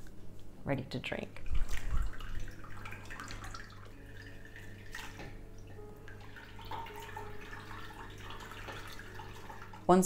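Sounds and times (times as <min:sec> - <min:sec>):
wet sloshing and dripping: 0:01.4 - 0:09.9.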